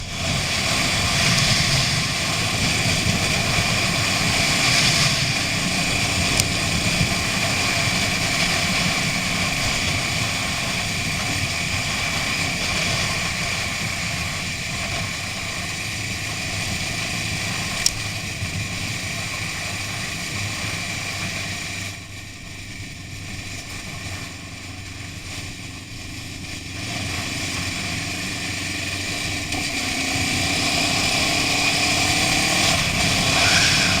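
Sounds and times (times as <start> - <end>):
motorcycle engine running: 0.0 - 34.0
wind rush on a moving motorbike: 0.0 - 34.0.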